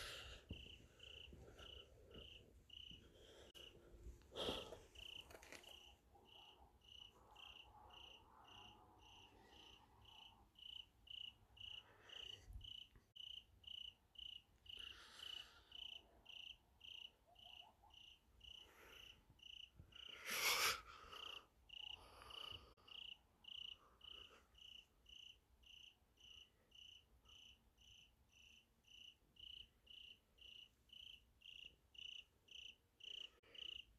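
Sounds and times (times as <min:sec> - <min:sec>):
cricket chirping: 0:00.1 - 0:03.8, 0:04.4 - 0:33.9.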